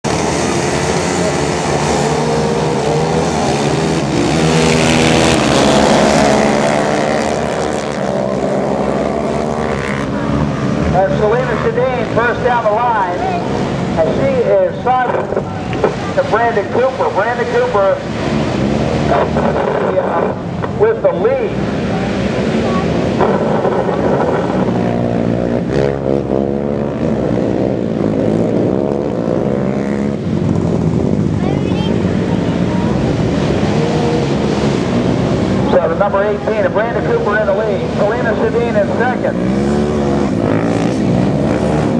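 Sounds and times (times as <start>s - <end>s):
quad engines revving high: 0.0s - 41.9s.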